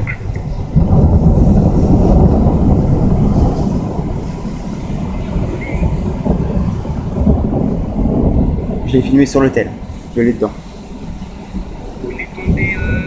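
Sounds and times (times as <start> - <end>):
deep rolling thunder: 0.0 - 13.0.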